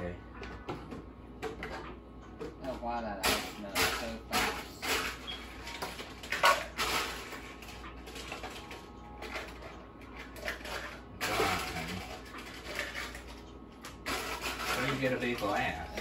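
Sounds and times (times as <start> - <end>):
kitchen clatter: 1.4 - 16.0.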